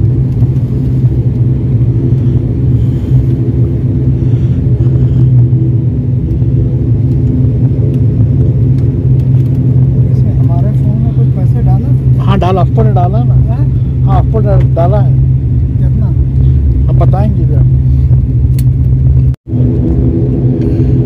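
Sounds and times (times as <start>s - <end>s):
turboprop engines droning: 0.0s - 21.0s.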